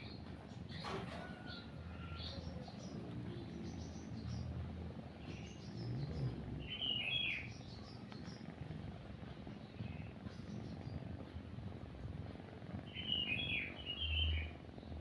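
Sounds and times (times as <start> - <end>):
cat purring: 0.0 - 15.0
small birds chirping: 0.0 - 15.0.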